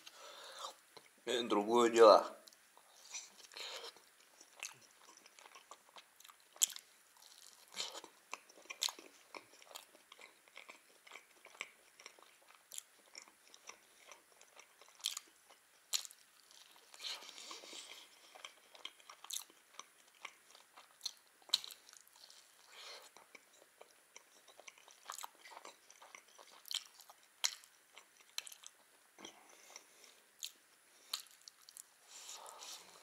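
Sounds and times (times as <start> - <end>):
person chewing with wet smacks: 2.4 - 33.0.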